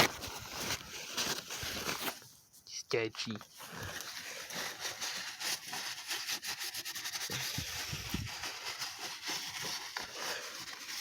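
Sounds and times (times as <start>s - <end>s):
rubbing and scraping handling noise: 0.0s - 11.0s.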